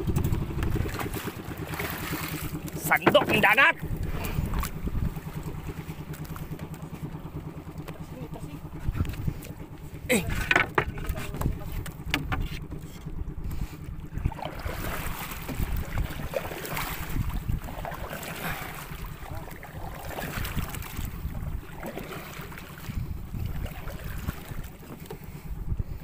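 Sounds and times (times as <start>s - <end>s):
water splashing against boat hull: 0.0s - 26.0s
wind buffeting microphone: 0.0s - 26.0s.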